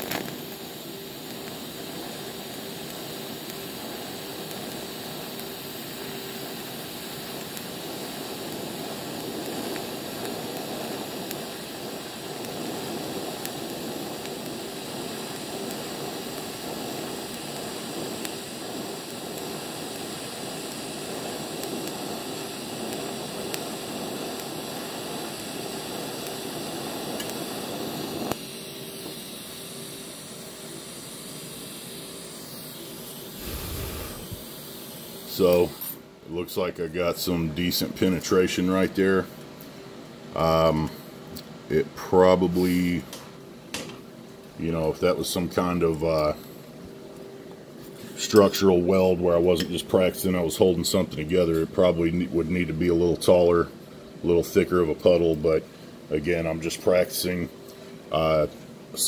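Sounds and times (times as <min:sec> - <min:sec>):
welding arc hissing and buzzing: 0:00.0 - 0:39.8, 0:47.9 - 0:57.5
faint hiss: 0:00.0 - 0:59.0.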